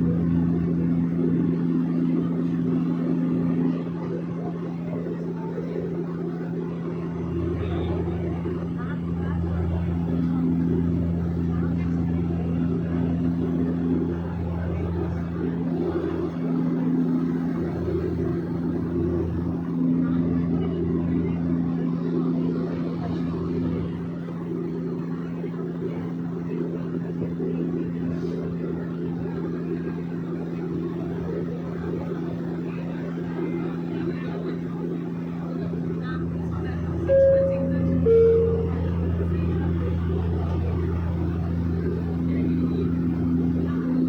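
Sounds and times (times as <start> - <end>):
airplane engine and propeller drone: 0.0 - 44.0.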